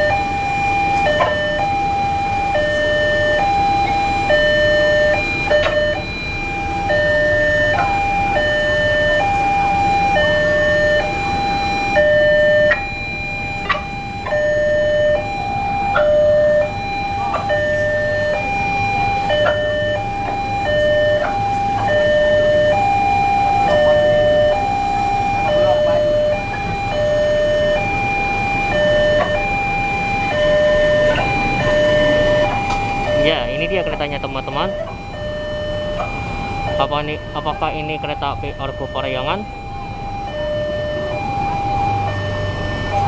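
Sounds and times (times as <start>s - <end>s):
level crossing alarm: 0.0s - 43.0s.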